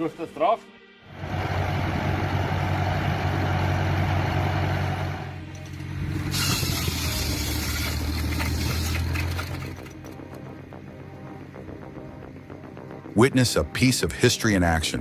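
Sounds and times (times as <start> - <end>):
machine engine humming: 1.1 - 13.2.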